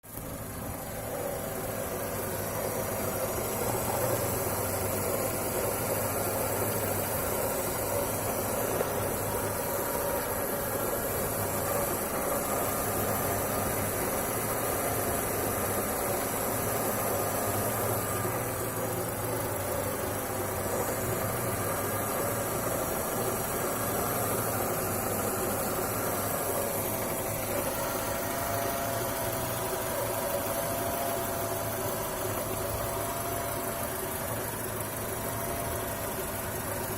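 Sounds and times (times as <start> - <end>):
car engine idling: 0.0 - 36.9
steady whine: 0.1 - 36.9.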